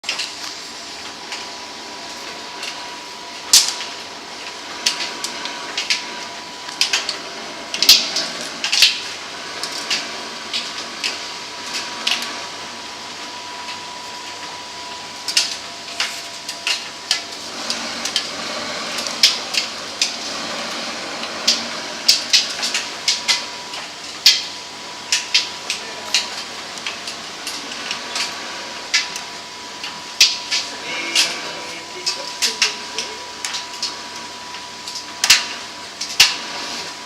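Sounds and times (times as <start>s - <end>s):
tumble dryer humming: 0.0s - 37.0s
thin steady whine: 0.1s - 37.0s.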